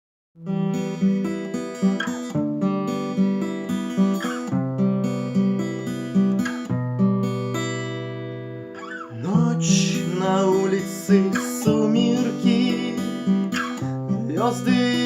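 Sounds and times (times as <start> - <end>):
acoustic guitar picking chords: 0.4 - 15.0.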